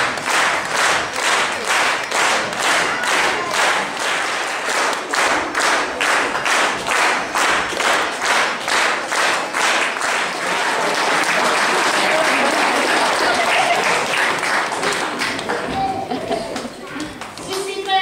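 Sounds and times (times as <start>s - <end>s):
applause: 0.0s - 18.0s
audience clapping in time: 0.0s - 18.0s.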